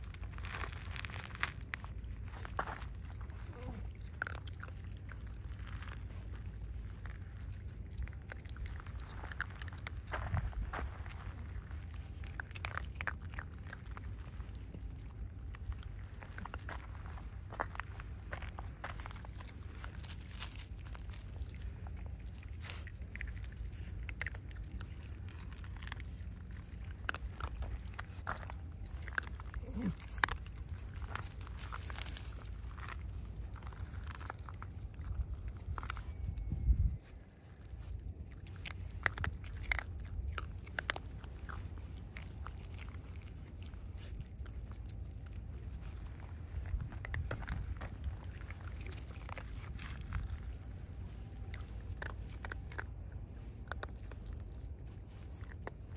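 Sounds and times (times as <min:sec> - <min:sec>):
animals crunching food: 0:00.0 - 0:55.9
low steady rumble: 0:00.0 - 0:55.9.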